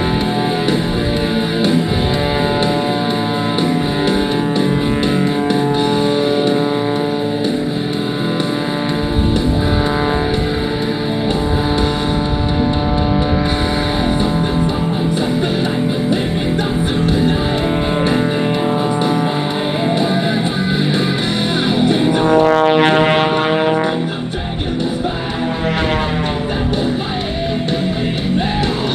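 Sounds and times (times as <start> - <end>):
rock music with electric guitar: 0.0 - 28.9.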